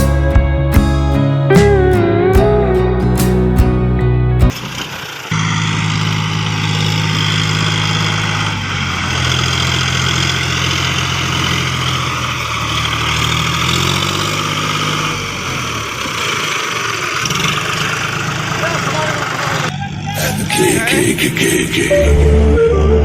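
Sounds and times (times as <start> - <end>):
tractor diesel engine running: 0.0 - 21.8.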